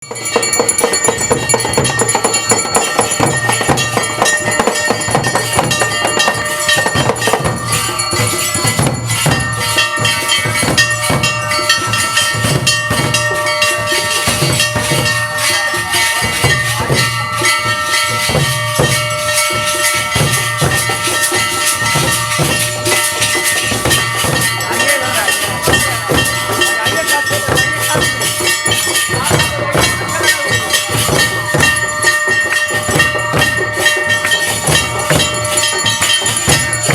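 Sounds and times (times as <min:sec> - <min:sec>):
bells and hand cymbals clattering: 0:00.0 - 0:36.9
low drumbeat: 0:00.0 - 0:36.9.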